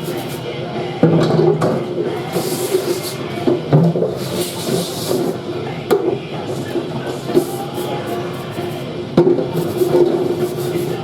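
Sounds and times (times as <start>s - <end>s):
machinery humming: 0.0s - 11.0s
trays clanking: 1.0s - 11.0s.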